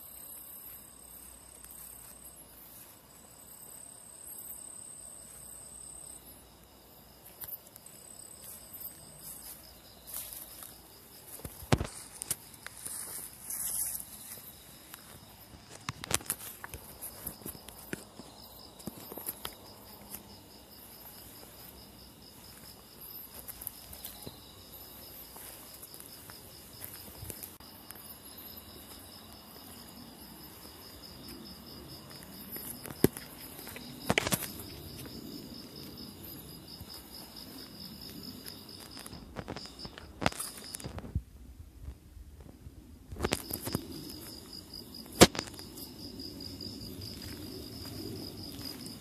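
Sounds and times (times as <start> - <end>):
crickets chirping: 0.0 - 49.0.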